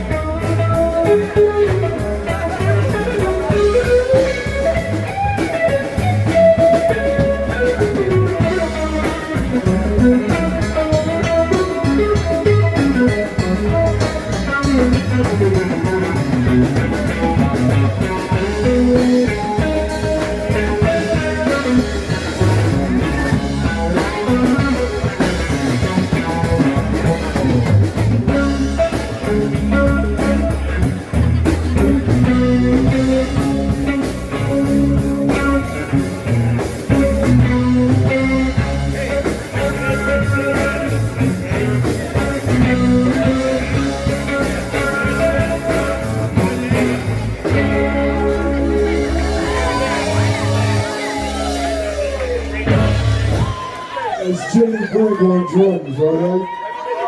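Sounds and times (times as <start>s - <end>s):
drum kit: 0.0s - 54.3s
electric guitar: 0.0s - 55.6s.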